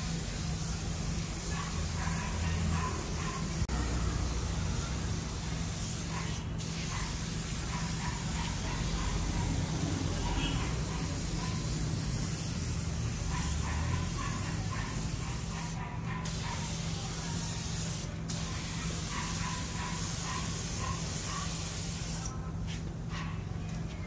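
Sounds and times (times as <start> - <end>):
paint spray gun hissing: 0.0 - 22.3.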